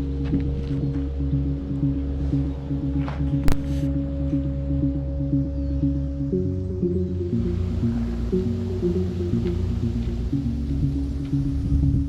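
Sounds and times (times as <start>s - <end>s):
slow synth music: 0.0s - 12.0s.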